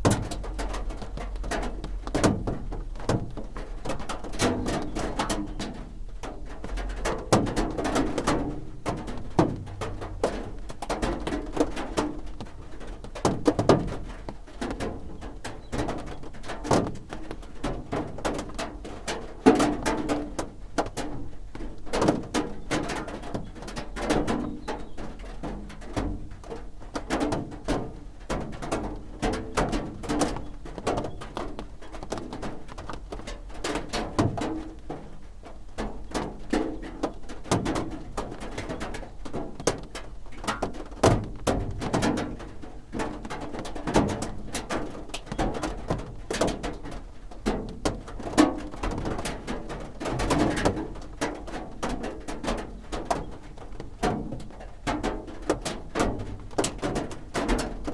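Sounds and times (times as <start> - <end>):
rain drumming on a roof: 0.0 - 57.9.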